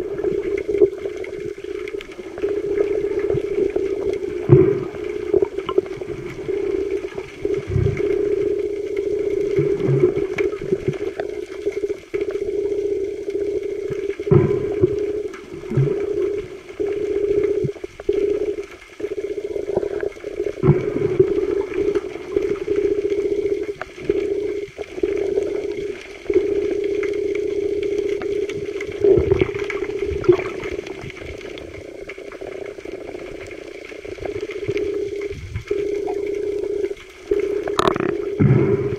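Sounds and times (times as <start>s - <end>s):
underwater knocks and thumps: 0.0s - 12.4s, 13.8s - 32.9s, 34.1s - 38.9s
underwater droning hum: 0.0s - 38.9s.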